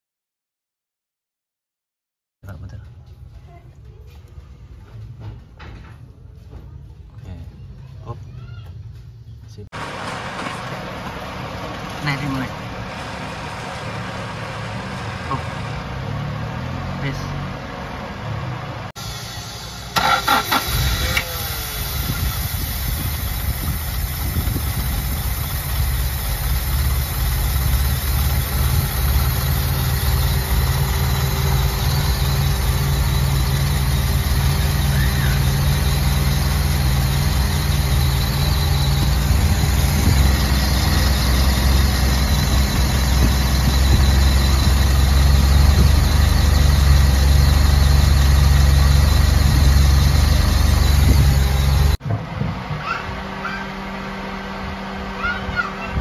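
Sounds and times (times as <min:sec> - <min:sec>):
car engine running: 0:09.7 - 0:56.0.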